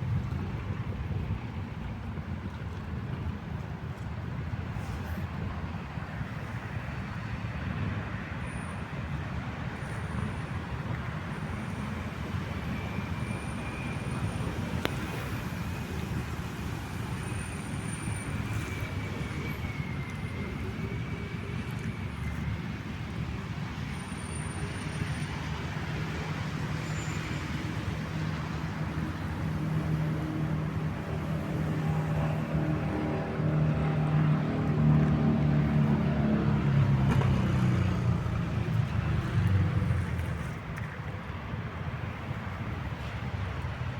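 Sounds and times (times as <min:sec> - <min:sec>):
distant road traffic rumble: 0:00.0 - 0:43.9.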